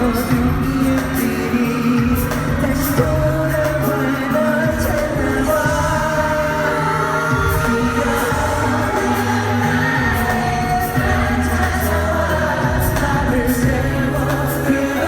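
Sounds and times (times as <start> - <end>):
loud amplified backing music: 0.0 - 15.0
male group singing pop song: 0.0 - 15.0.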